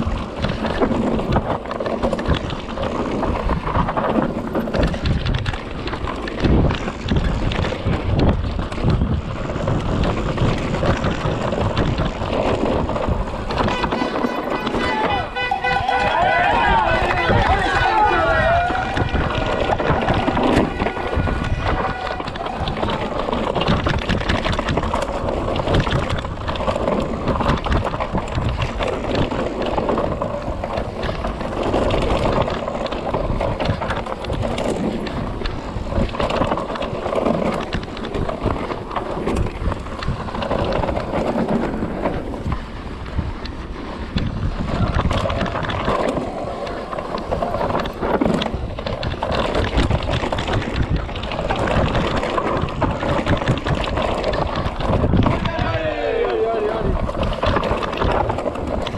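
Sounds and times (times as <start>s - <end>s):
bike clattering over roots: 0.0s - 58.9s
bike tyres rumbling on dirt: 0.0s - 58.9s
wind on microphone: 0.0s - 58.9s.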